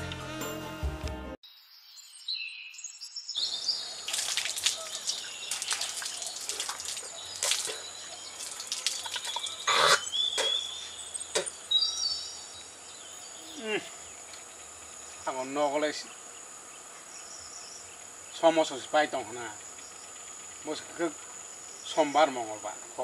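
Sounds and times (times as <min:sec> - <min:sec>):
birds chirping: 0:01.8 - 0:23.0
high insect drone: 0:03.3 - 0:23.0.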